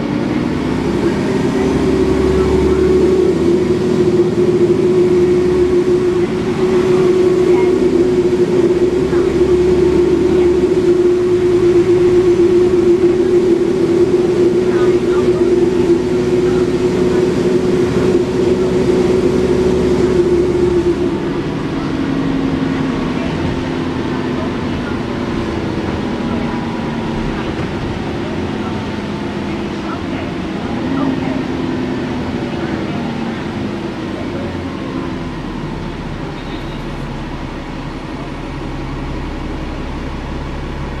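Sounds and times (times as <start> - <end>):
bus engine running with whine: 0.0 - 41.0
higher drone: 0.0 - 41.0.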